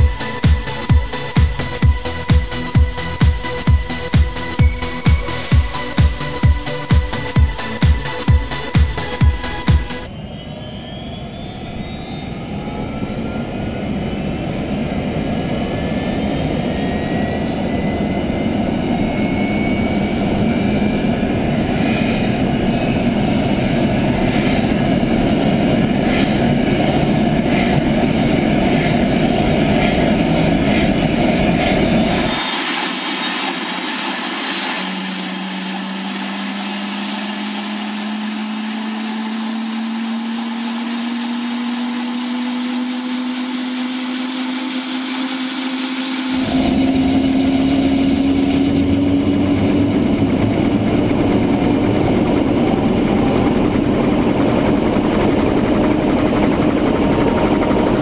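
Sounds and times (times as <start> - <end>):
helicopter engine whine: 0.0 - 58.0.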